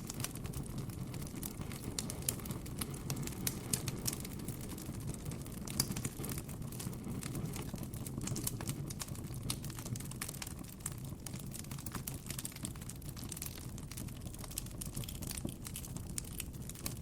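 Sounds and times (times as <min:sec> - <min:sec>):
low rumble of flames: 0:00.0 - 0:17.0
burning wood pops and snaps: 0:00.1 - 0:17.0.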